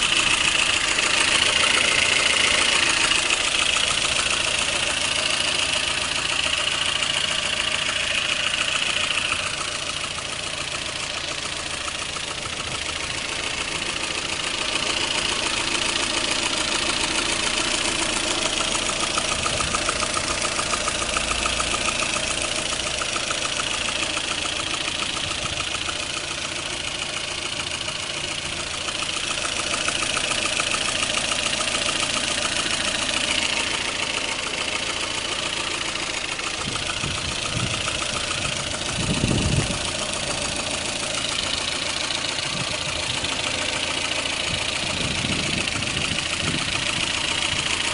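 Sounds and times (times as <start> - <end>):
car engine running: 0.0 - 47.9
fast engine ticking knock: 0.0 - 47.9.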